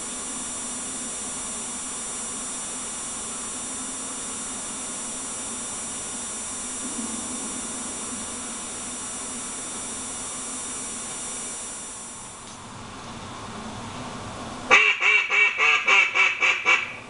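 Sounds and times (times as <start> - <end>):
low hum: 0.0 - 14.7
steady hiss: 0.0 - 17.0.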